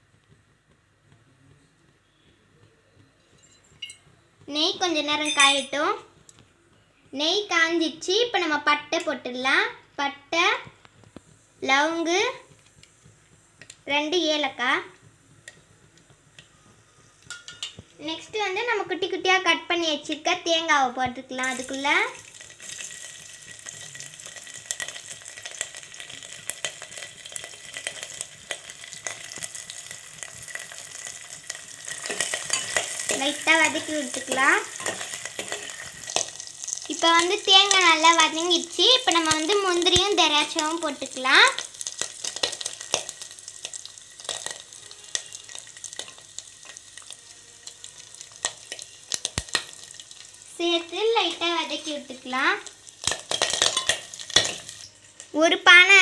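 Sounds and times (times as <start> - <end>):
crackles and pops: 0.0 - 9.7, 10.4 - 56.0
coconut frying in hot ghee: 0.0 - 56.0.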